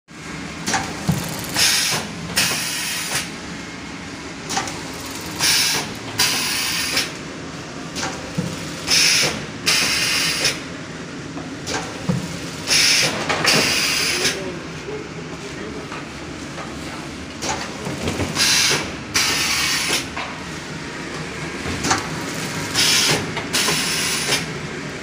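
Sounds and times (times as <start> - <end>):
shrink wrap machine humming: 0.1 - 25.0.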